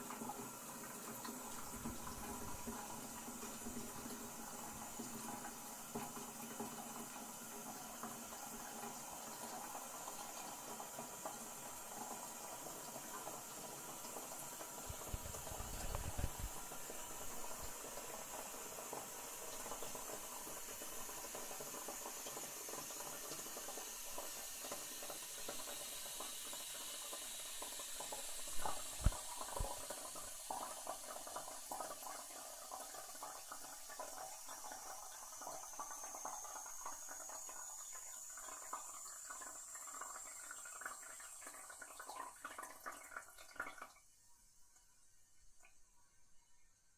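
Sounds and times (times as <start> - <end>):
water hissing through fill valve: 0.0 - 44.9.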